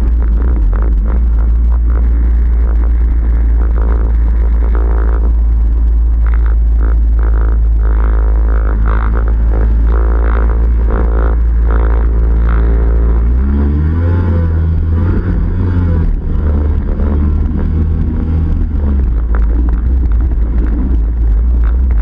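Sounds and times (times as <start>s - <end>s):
two-stroke engine idling and revving: 0.0s - 22.0s.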